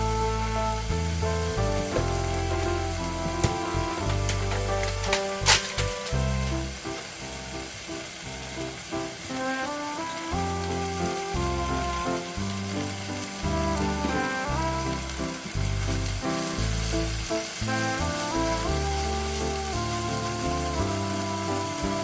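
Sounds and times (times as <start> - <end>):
background music with plucked melody: 0.0 - 22.0
food sizzling in a frying pan: 0.0 - 22.0.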